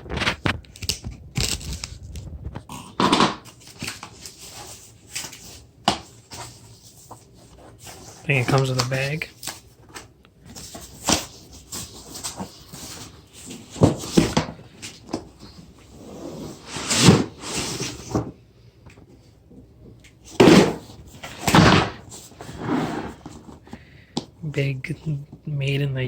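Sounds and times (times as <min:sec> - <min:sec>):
packaging rustling and scraping: 0:00.0 - 0:18.4, 0:20.2 - 0:23.9.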